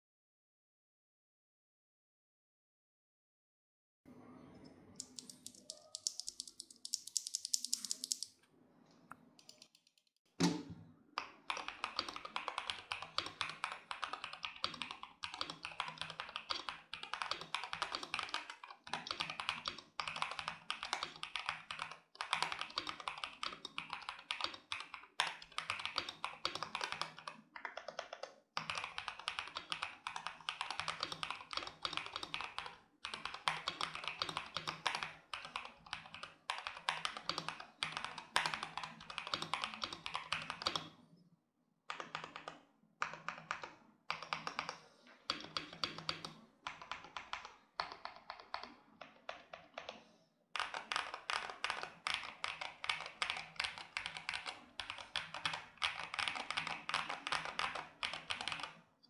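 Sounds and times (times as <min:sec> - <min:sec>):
mechanical keyboard typing: 0:05.0 - 0:08.4, 0:11.2 - 0:41.0, 0:41.9 - 0:50.0, 0:50.6 - 0:58.8.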